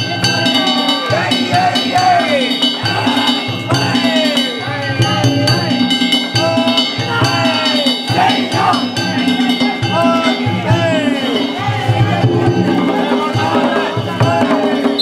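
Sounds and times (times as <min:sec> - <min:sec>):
taiko drums beating: 0:00.0 - 0:15.0.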